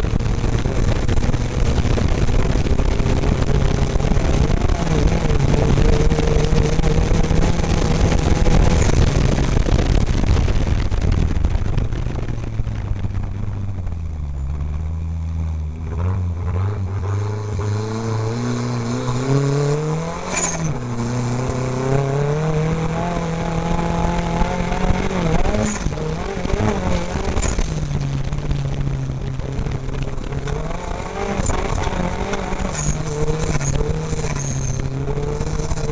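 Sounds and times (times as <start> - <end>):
car rattling on dirt track: 0.0 - 35.9
race car engine revving: 0.0 - 35.9.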